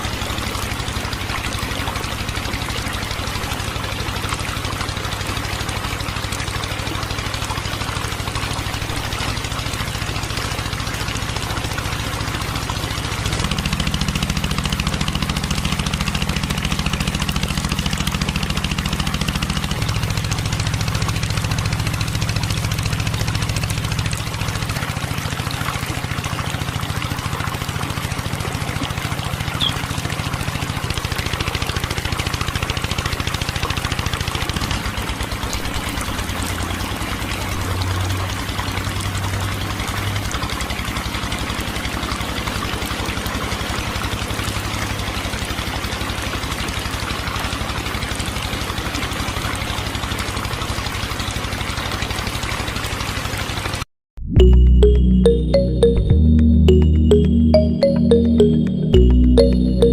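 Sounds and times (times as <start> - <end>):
small engine running: 0.0 - 53.8.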